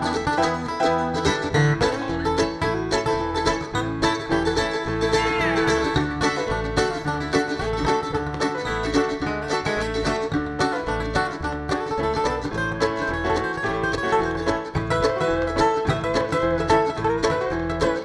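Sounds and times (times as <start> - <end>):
acoustic string band playing: 0.0 - 18.0.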